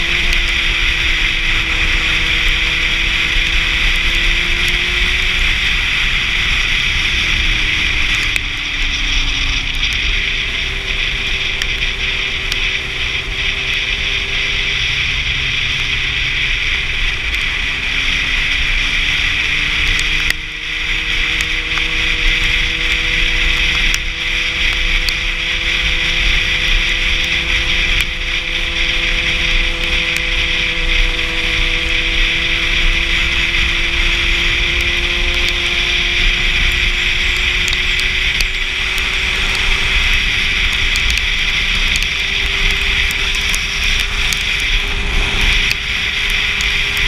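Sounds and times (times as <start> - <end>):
heavy wind rush: 0.0 - 47.0
motorcycle engine revving: 0.0 - 47.0.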